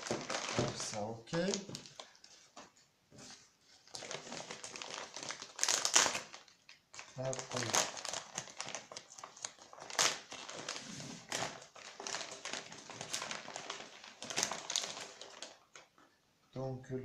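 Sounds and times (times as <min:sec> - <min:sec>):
padded envelope crinkling: 0:00.0 - 0:02.5, 0:03.7 - 0:15.9.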